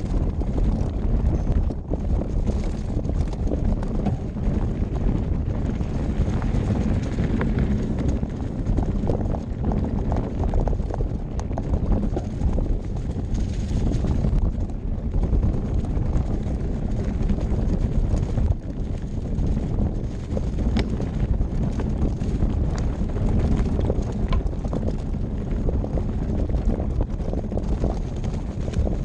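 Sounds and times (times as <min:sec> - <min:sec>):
bike clattering over bumps: 0:00.0 - 0:29.0
wind rushing over microphone: 0:00.0 - 0:29.0
tyres on dirt: 0:00.1 - 0:14.3, 0:15.1 - 0:26.6.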